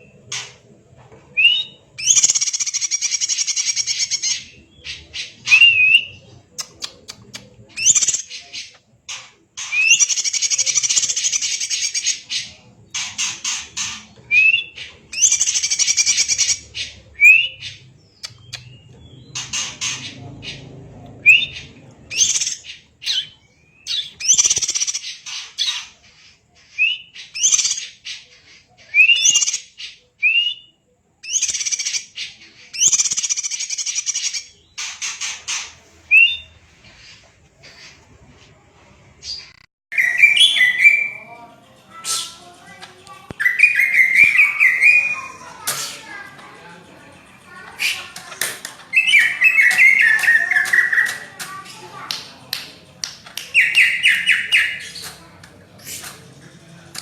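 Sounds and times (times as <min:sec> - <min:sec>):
bird singing buzzy phrases: 0:01.4 - 0:37.2, 0:39.2 - 0:52.9, 0:53.5 - 0:56.1.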